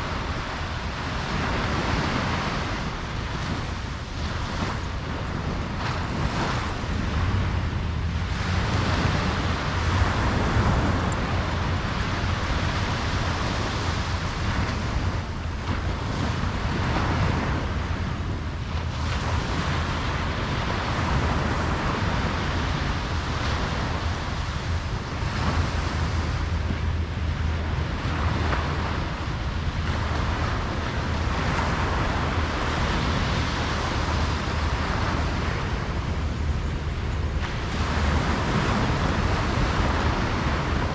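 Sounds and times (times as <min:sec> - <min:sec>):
low surf rumble: 0:00.0 - 0:40.9
ocean waves breaking on beach: 0:00.0 - 0:40.9
wind on microphone: 0:00.0 - 0:40.9.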